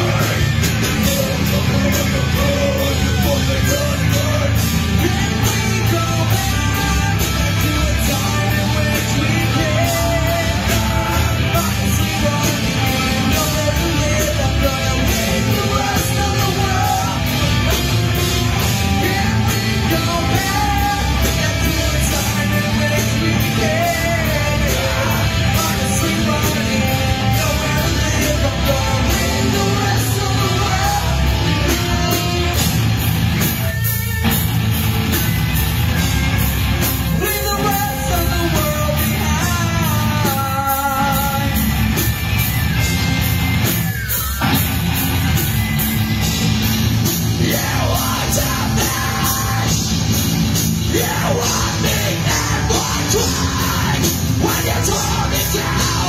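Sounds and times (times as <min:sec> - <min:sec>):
man singing: 0:00.0 - 0:32.6, 0:37.1 - 0:41.7, 0:47.4 - 0:50.0, 0:50.9 - 0:56.0
rock band playing live: 0:00.0 - 0:56.0.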